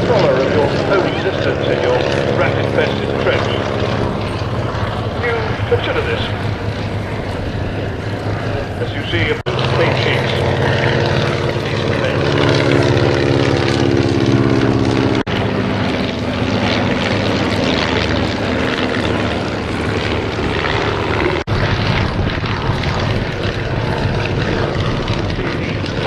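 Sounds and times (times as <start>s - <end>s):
propeller aircraft piston engines: 0.0s - 26.0s.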